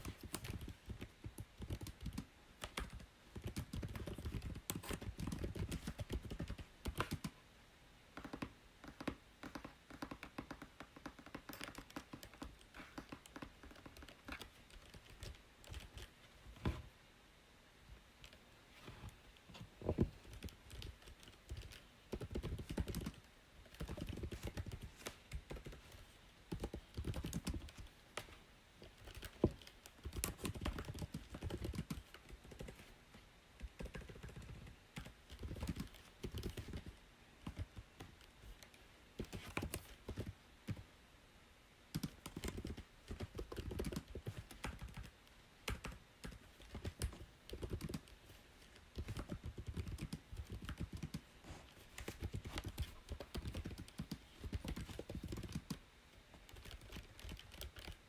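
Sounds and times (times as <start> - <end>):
typing on computer keyboard: 0.0 - 7.4, 8.2 - 16.2, 20.0 - 32.9, 33.6 - 40.8, 41.9 - 51.3, 51.9 - 55.8, 56.4 - 58.0.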